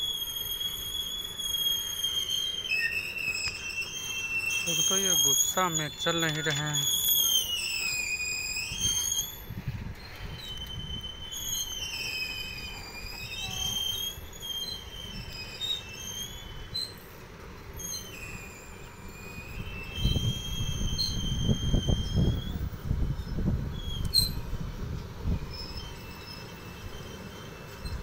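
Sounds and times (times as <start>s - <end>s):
freight train rolling past: 0.0s - 28.0s
wheels squealing: 0.0s - 28.0s.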